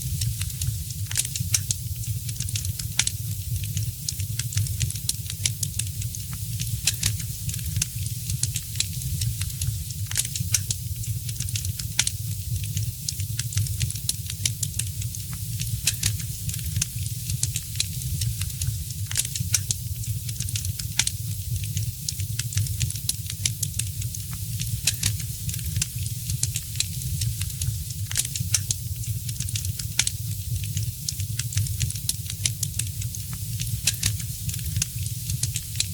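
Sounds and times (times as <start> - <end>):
fire snapping and popping: 0.0 - 35.9
low rumble of burning logs: 0.0 - 35.9.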